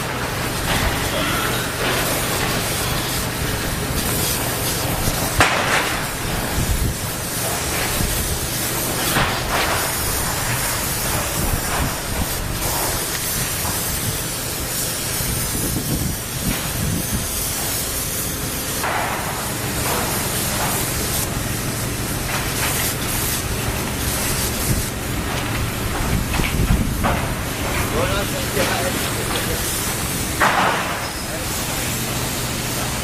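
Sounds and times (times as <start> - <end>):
spray gun hissing: 0.0 - 33.0.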